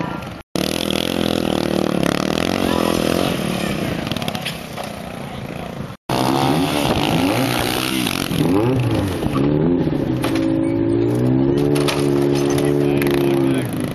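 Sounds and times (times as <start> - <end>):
motorcycle engine revving: 0.3 - 13.9.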